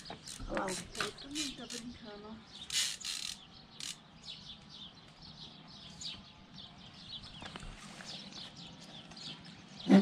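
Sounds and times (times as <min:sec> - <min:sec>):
faint outdoor background noise: 0:00.0 - 0:10.0
small birds chirping: 0:00.0 - 0:10.0.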